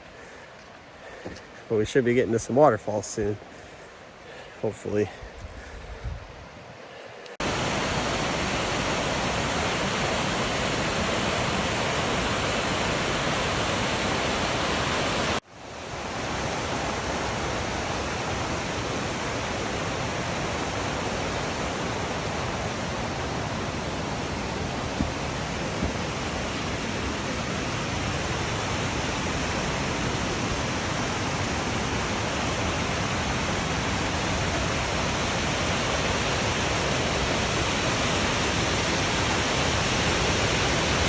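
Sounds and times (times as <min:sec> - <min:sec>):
waterfall roaring: 0:07.4 - 0:41.0.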